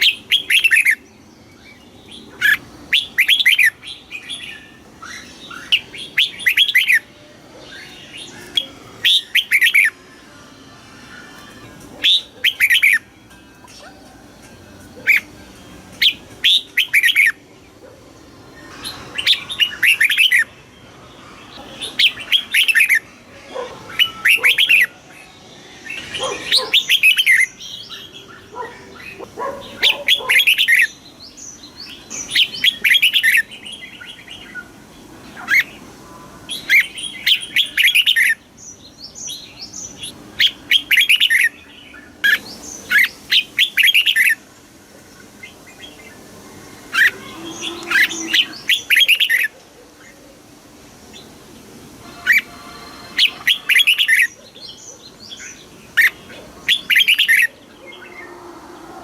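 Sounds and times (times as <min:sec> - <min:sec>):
bird singing warbled phrases: 0:00.0 - 0:14.1, 0:14.8 - 0:59.0.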